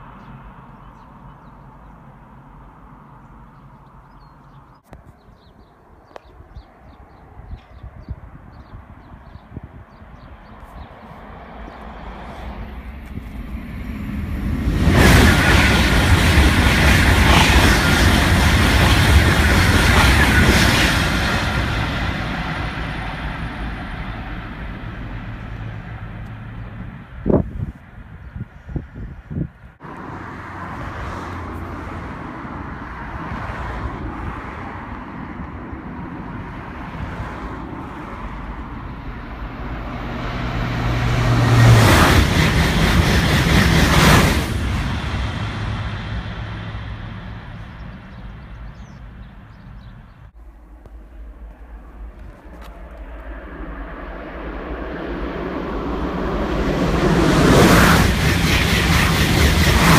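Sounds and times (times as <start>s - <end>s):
high-speed train passing: 0.0s - 4.1s, 5.7s - 59.9s.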